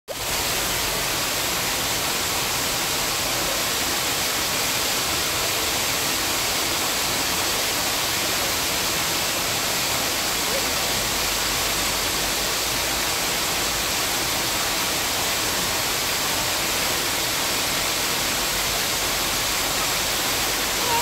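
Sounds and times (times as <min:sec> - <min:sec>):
waterfall hiss: 0:00.1 - 0:21.0.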